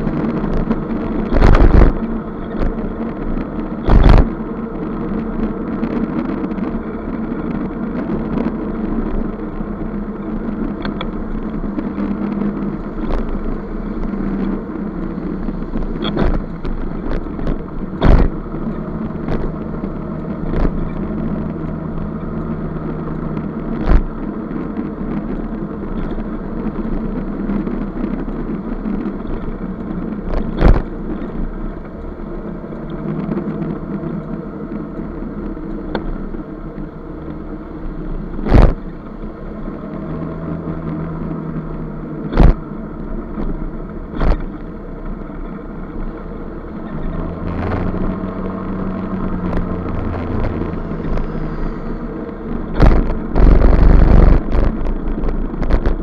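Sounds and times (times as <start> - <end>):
scooter engine running: 0.0 - 56.0
wind noise: 0.0 - 56.0.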